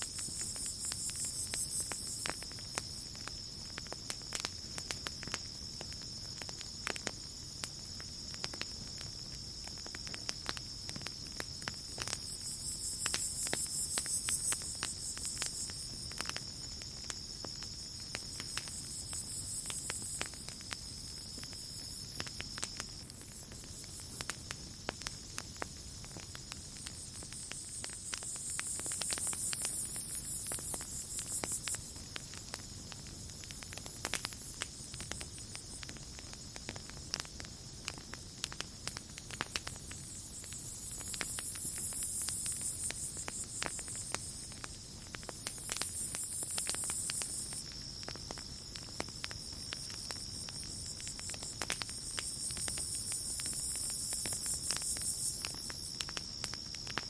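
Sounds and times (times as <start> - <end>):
campfire crackling: 0.0 - 57.0
cricket trill: 0.0 - 57.0
high insect chorus: 0.0 - 57.0.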